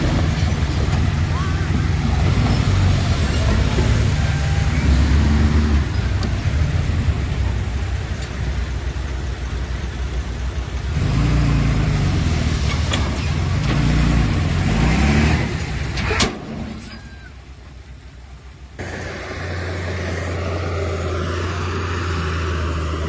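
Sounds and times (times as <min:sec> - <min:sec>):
bulldozer diesel engine under load: 0:00.0 - 0:23.0.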